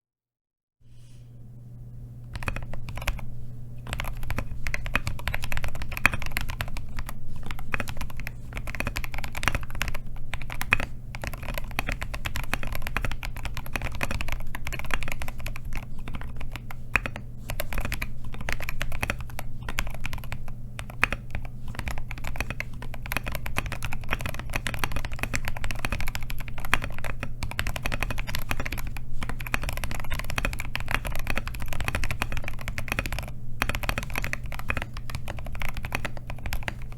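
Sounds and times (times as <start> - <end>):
steady low hum: 0.8 - 36.9
mechanical keyboard typing: 2.3 - 36.9.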